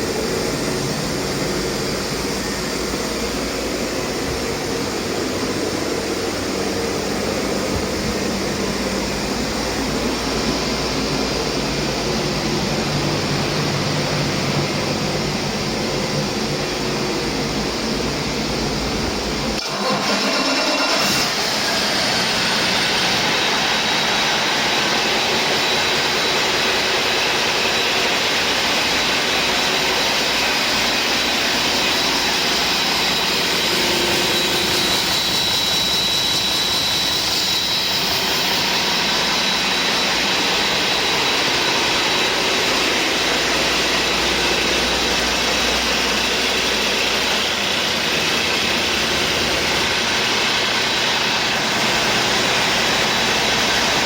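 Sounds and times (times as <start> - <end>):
diesel engine droning: 0.0 - 54.0
thin high engine whine: 0.0 - 54.0.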